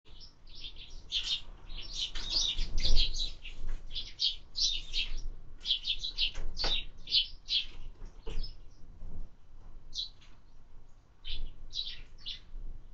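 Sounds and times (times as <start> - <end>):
sparrows chirping: 0.1 - 8.9, 9.9 - 12.6.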